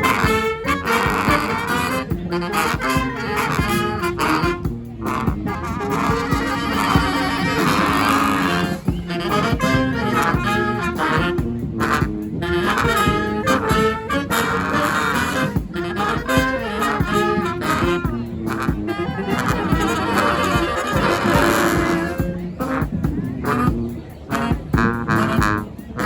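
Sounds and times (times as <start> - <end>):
brass band playing: 0.0 - 26.0.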